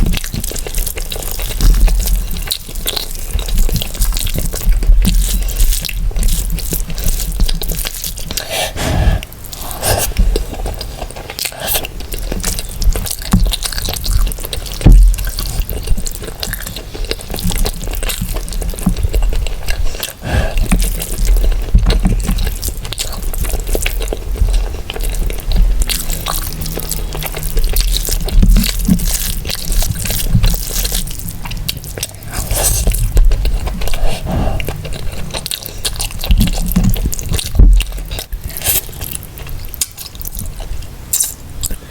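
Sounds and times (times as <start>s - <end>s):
chewing and smacking food: 0.0s - 41.9s.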